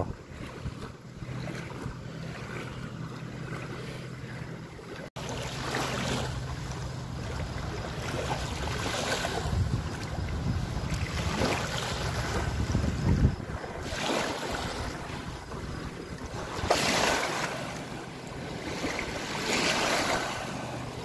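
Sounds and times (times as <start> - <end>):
wind buffeting microphone: 0.0 - 3.6, 6.6 - 21.0
waves lapping on sandy shore: 0.0 - 21.0.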